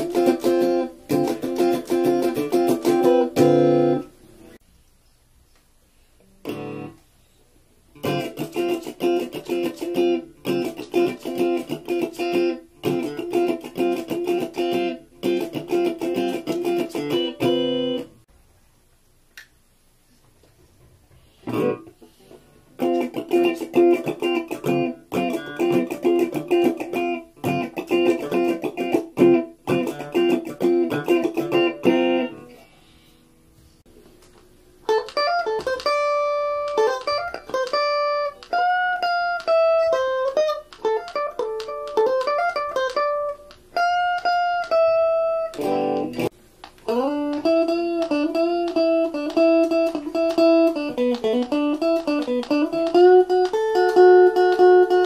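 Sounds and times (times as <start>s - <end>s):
electric guitar chord riff: 0.0s - 4.1s, 6.4s - 7.0s, 8.0s - 18.2s, 22.8s - 33.4s, 34.9s - 55.0s.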